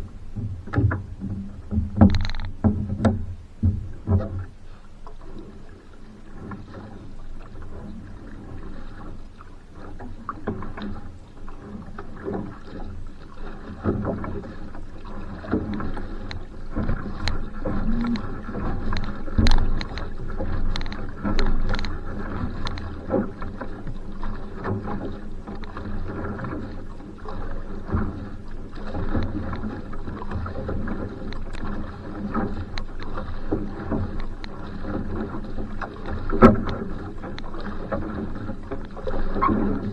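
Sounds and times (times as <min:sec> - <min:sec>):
paddle strokes splashing: 0:00.0 - 0:39.9
water rushing along hull: 0:00.0 - 0:39.9.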